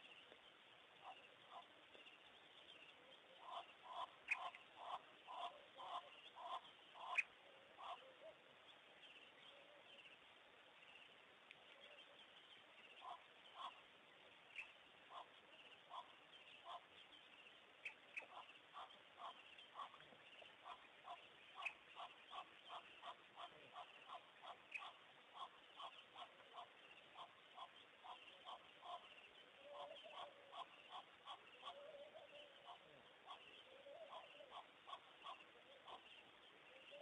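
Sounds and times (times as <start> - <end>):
faint background hiss: 0.0 - 37.0.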